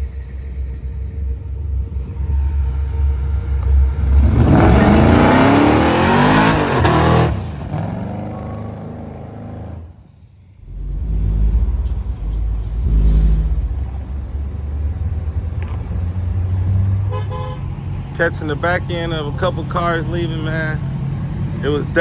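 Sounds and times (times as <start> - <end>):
car engine revving: 0.0 - 22.0
low engine rumble: 0.0 - 22.0.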